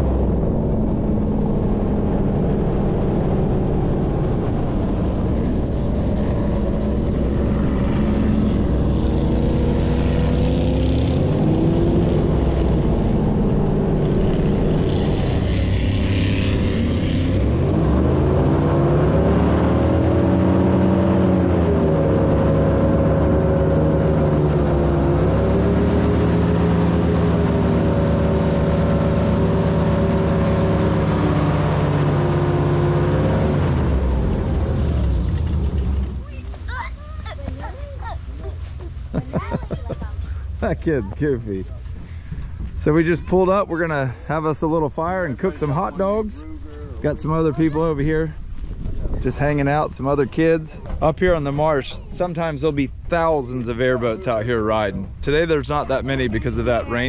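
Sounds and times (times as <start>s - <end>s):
airboat engine and propeller: 0.0s - 57.0s.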